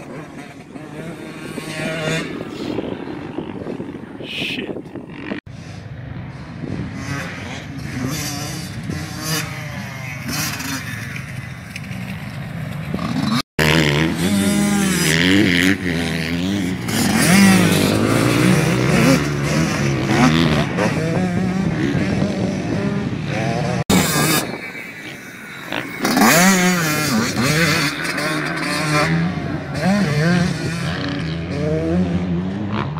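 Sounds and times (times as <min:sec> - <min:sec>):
dirt bike engines revving: 0:00.0 - 0:32.9.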